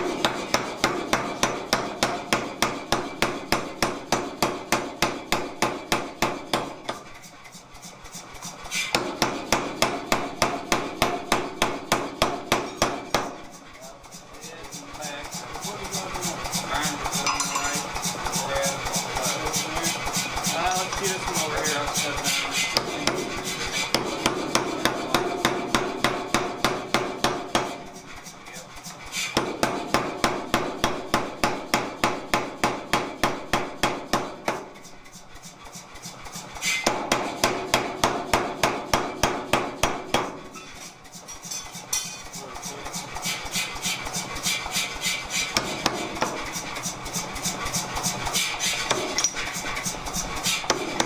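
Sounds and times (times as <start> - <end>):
power hammer pounding steel: 0.0 - 51.0.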